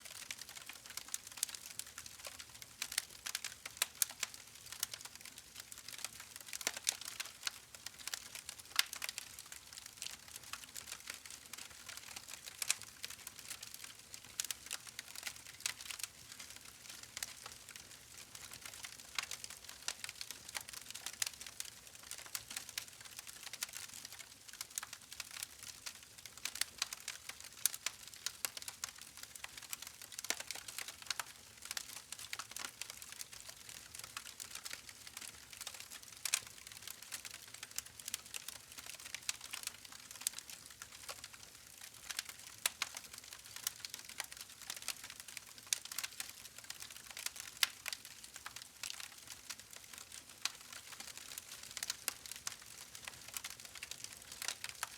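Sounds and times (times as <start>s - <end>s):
campfire crackling and popping: 0.1s - 54.9s.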